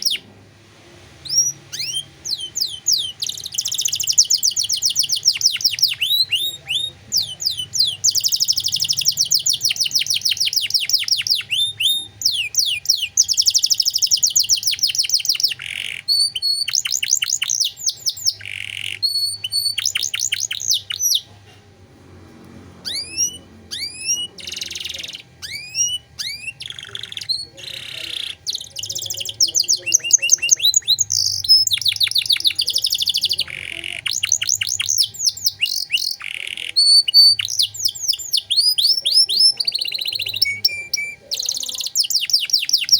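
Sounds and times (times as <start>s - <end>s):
canary singing trills: 0.0s - 0.4s, 1.2s - 21.4s, 22.8s - 42.9s.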